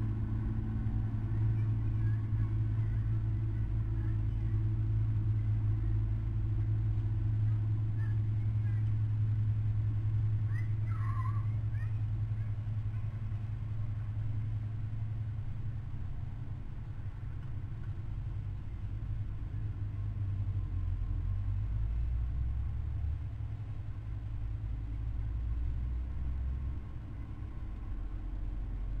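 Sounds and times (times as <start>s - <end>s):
low hum and rumble: 0.0s - 29.0s.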